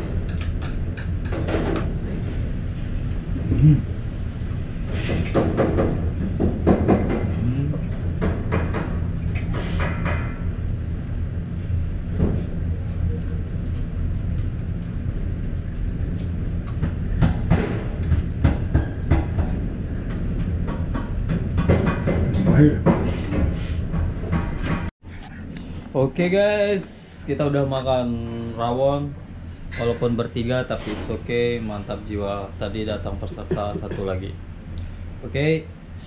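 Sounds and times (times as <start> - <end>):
low mechanical rumble: 0.0 - 36.0.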